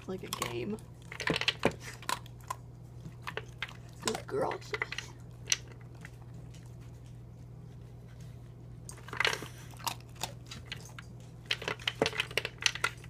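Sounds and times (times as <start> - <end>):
dog crunching dry kibble: 0.0 - 13.0.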